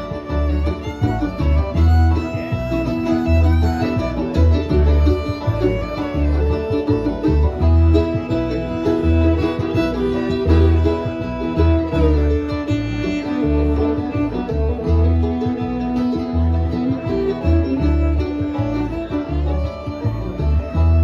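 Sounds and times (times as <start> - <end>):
acoustic guitar: 0.0 - 21.0
banjo: 0.0 - 21.0
bass notes on the beat: 0.0 - 21.0
fiddle: 0.0 - 21.0.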